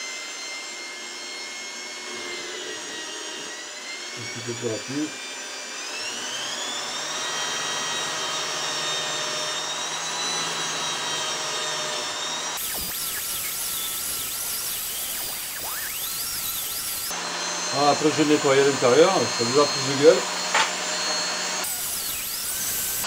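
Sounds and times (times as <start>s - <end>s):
electric drill running: 0.0s - 23.0s.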